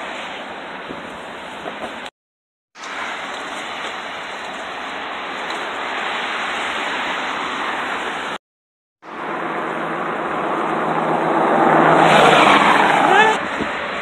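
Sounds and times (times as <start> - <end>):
car wind and road noise: 0.0 - 2.1, 2.8 - 8.4, 9.0 - 14.0.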